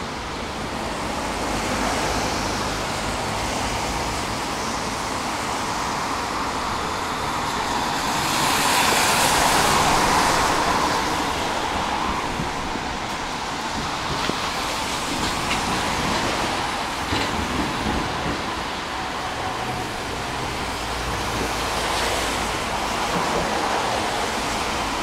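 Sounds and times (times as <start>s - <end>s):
street traffic: 0.0s - 25.0s
tram rolling: 0.0s - 25.0s.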